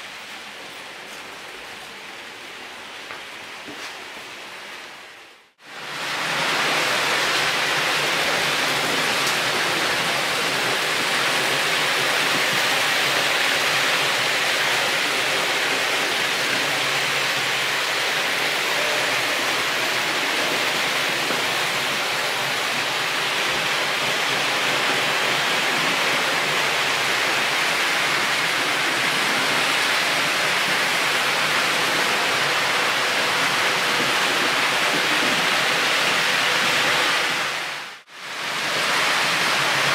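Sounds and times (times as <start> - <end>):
steady hiss-like rushing noise: 0.0 - 39.9.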